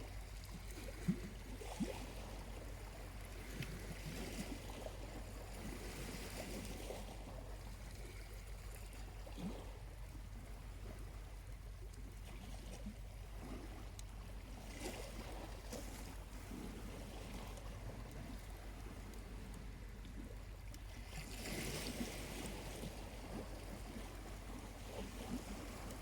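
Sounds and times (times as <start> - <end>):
small waves washing onto beach: 0.0 - 26.0.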